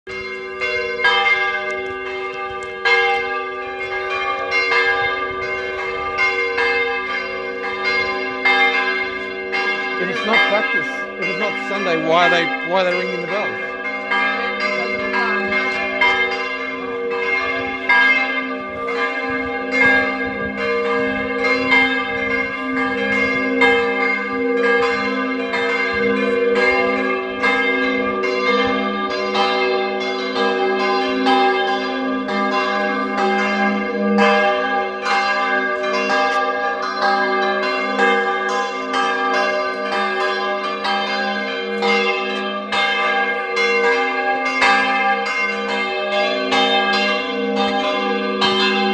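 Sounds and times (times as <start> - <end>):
church bells ringing: 0.1 - 48.9.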